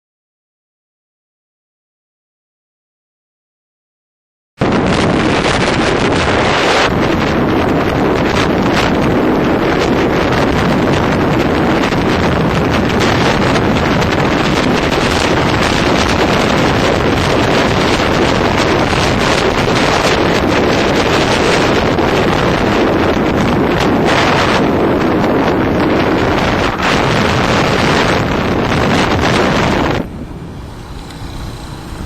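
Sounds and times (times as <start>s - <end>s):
wind buffeting microphone: 4.6s - 32.0s.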